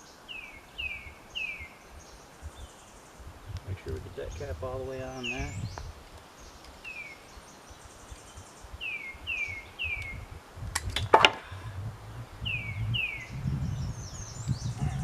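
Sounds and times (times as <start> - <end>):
bird chirping: 0.0 - 10.4, 11.2 - 15.0.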